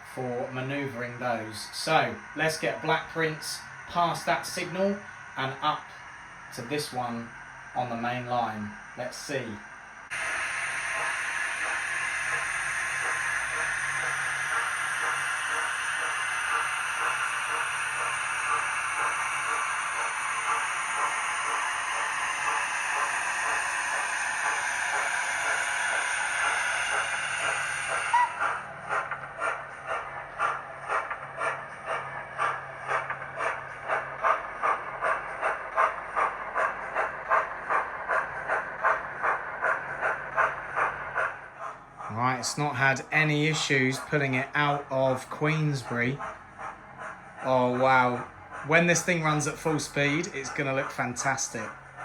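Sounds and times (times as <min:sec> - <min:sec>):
model train running on track: 0:00.0 - 0:52.0.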